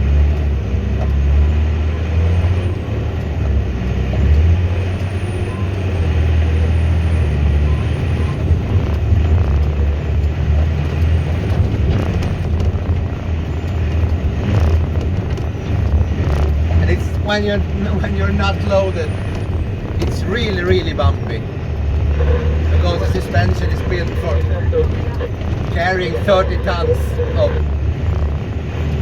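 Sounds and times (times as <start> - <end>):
diesel truck drone: 0.0 - 29.0
road and cab noise: 0.0 - 29.0.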